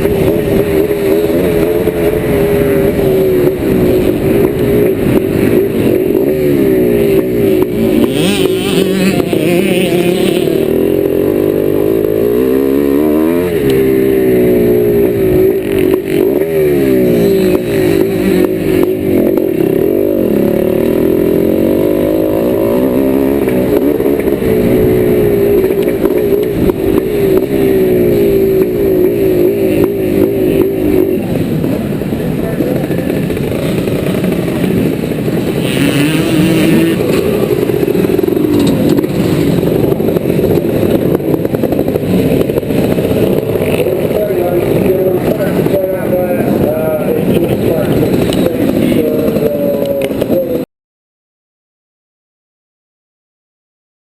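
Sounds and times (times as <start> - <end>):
two-stroke motorcycle engine revving: 0.0 - 50.7.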